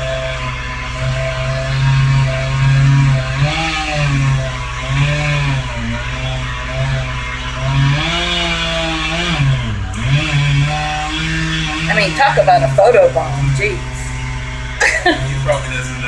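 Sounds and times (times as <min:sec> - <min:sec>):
chainsaw cutting under load: 0:00.0 - 0:16.0.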